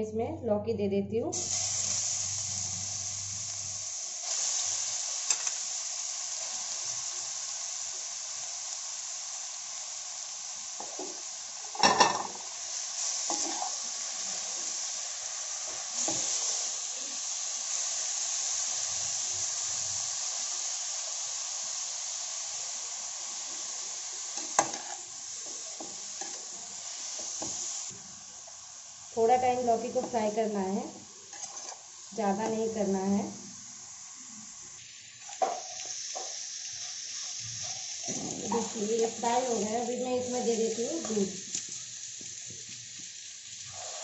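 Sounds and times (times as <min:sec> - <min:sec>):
vegetables sizzling in ghee: 0:01.2 - 0:44.0.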